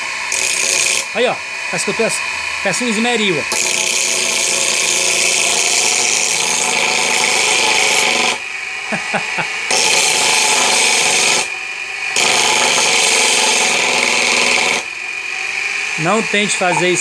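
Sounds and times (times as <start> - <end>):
grinding wheel grinding metal: 0.0 - 1.2, 3.5 - 8.4, 9.3 - 17.0.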